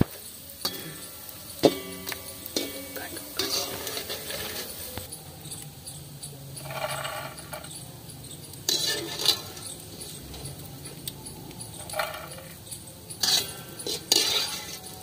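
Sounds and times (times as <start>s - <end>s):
frying crackling sizzle: 0.0s - 15.0s.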